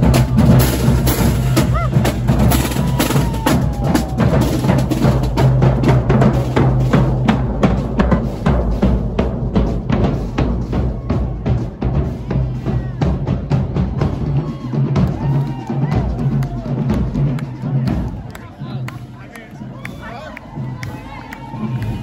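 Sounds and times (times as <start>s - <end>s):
bass and snare drums beating: 0.0s - 22.0s.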